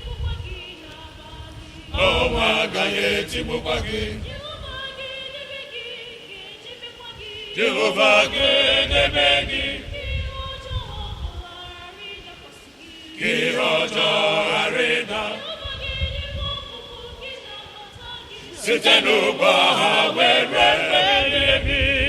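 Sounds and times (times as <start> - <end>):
congregation chanting: 0.6 - 10.1, 12.1 - 16.0, 16.6 - 22.0.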